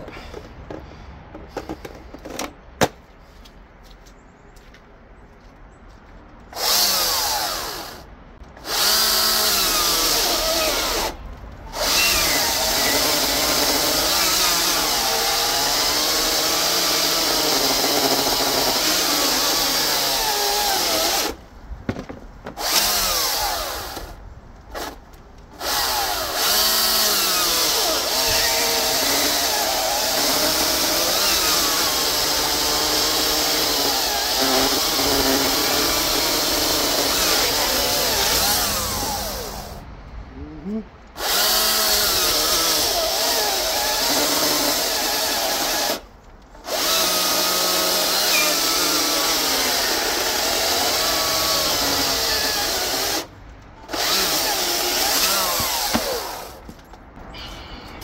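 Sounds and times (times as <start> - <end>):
electric chainsaw cutting log: 6.6 - 21.4, 22.5 - 39.8, 41.2 - 56.7.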